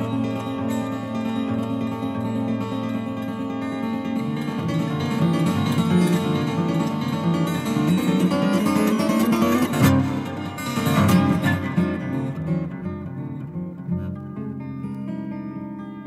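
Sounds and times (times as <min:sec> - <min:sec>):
jazz acoustic guitar: 0:00.0 - 0:16.0.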